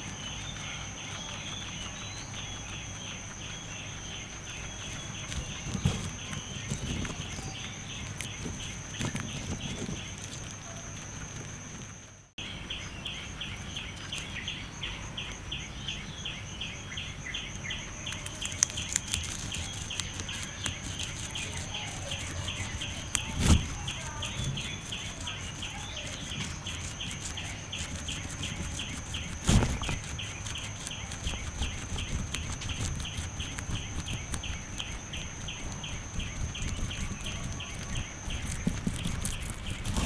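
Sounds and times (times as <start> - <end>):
guinea pig chewing grass: 0.0 - 16.1, 17.0 - 40.0
pulsing high-pitched chirping: 0.0 - 40.0.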